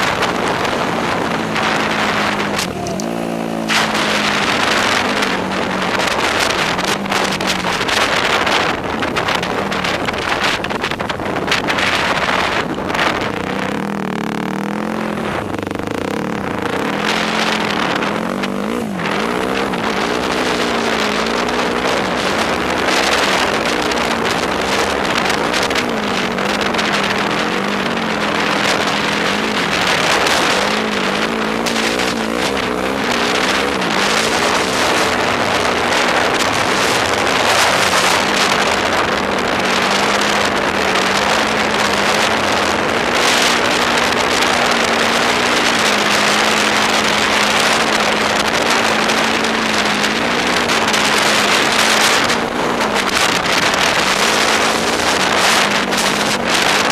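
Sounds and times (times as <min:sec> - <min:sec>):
quad engine revving: 0:00.0 - 0:56.9
wind on microphone: 0:00.0 - 0:56.9.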